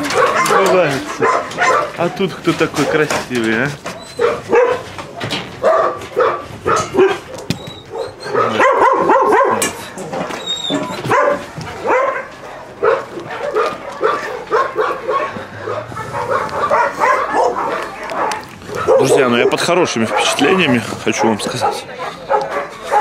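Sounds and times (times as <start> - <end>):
dogs barking: 0.0 - 23.0.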